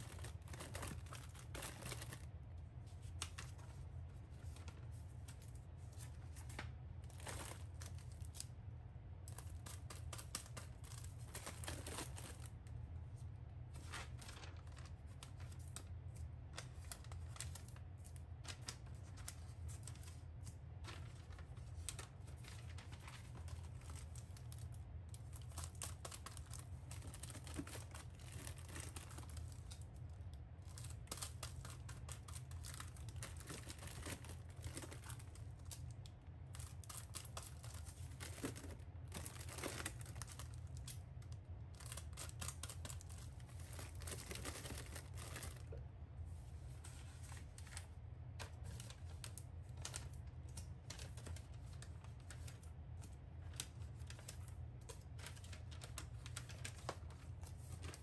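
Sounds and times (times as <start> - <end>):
faint low hum: 0.0 - 58.0
plastic bags and paper rustling: 0.0 - 58.0.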